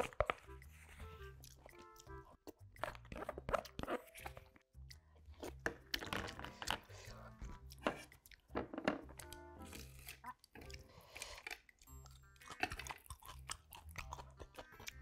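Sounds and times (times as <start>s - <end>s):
chewing and crunching food: 0.0s - 15.0s
soft background music: 0.0s - 15.0s.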